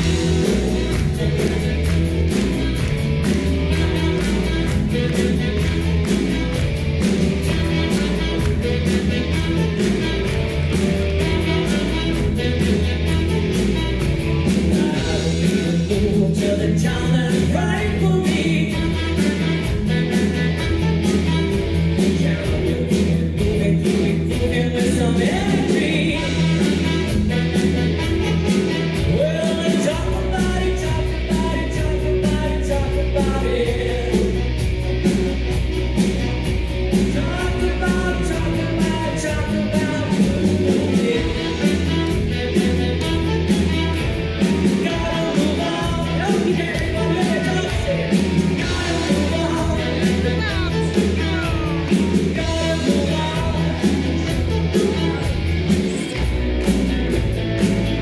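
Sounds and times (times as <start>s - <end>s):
person singing: 0.0s - 34.6s, 36.9s - 56.8s
bass guitar: 0.0s - 58.0s
drums: 0.0s - 58.0s
electric guitars: 0.0s - 58.0s.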